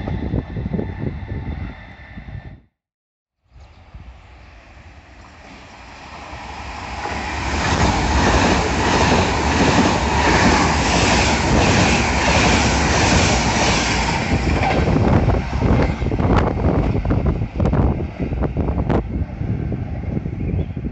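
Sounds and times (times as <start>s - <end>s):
high-speed train passing: 0.0s - 2.6s, 3.6s - 20.9s.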